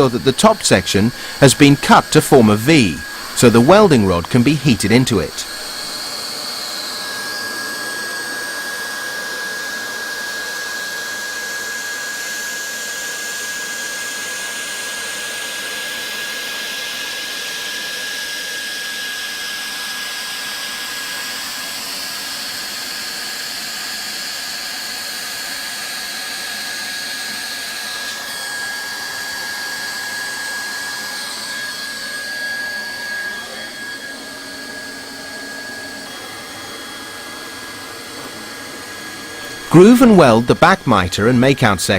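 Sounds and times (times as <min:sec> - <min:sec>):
hot-air gun blower whining: 0:00.0 - 0:41.9.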